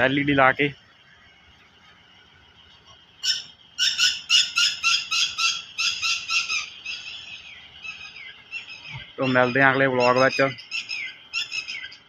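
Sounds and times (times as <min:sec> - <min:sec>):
bird calling rapidly: 0:00.0 - 0:12.0.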